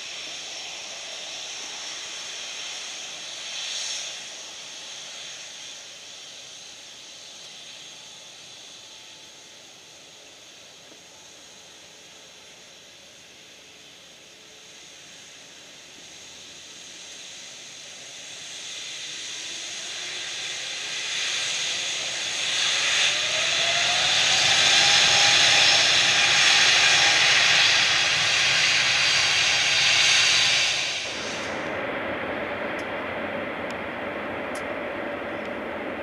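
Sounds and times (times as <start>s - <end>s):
jet engine whine rising: 0.0s - 36.0s
loud jet hiss: 0.0s - 36.0s.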